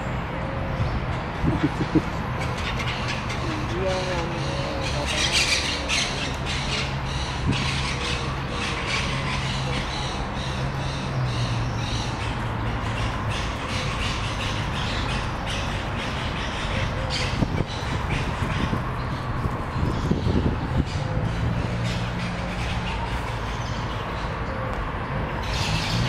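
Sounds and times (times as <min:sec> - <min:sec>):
birds harsh calls: 0:00.8 - 0:24.6, 0:25.4 - 0:26.0.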